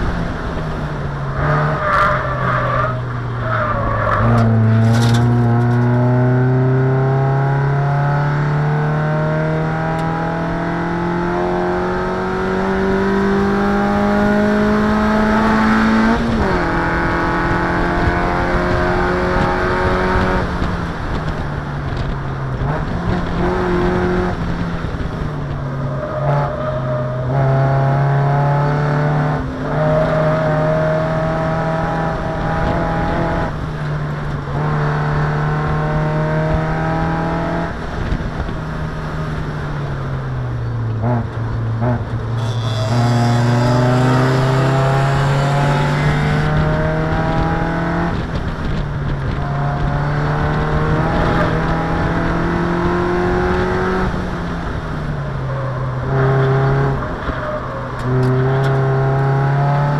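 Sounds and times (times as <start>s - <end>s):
race car engine accelerating: 0.0s - 21.2s, 21.9s - 38.3s, 40.9s - 59.9s.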